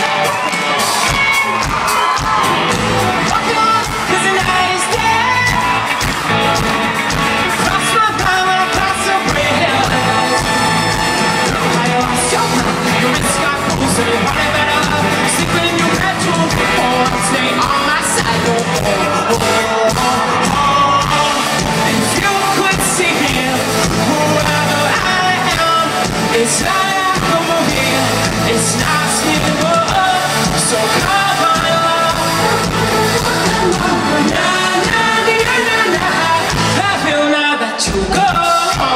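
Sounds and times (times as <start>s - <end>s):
live pop-rock band with singer: 0.0s - 38.9s.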